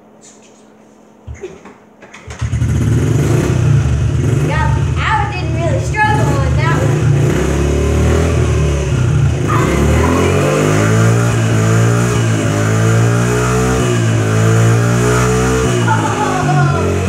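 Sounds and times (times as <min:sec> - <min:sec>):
dirt bike engine revving: 0:02.3 - 0:17.0.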